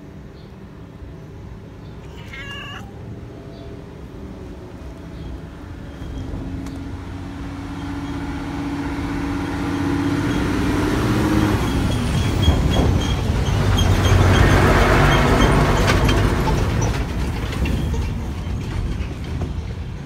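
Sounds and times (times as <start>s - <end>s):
motor vehicle passing: 1.5s - 17.9s.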